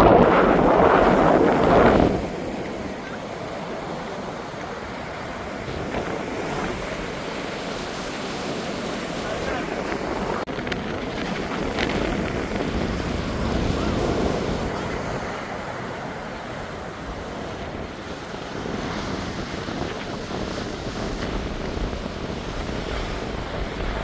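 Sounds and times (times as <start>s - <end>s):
ocean surf breaking: 0.0s - 24.0s
wind buffeting the microphone: 0.0s - 24.0s.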